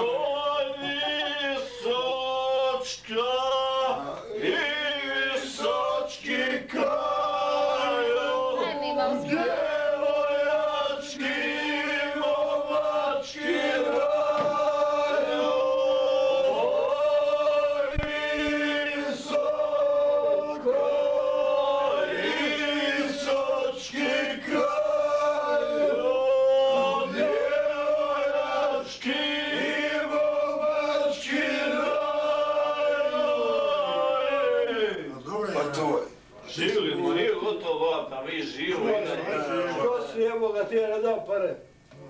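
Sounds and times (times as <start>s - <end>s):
men singing together: 0.0s - 35.1s.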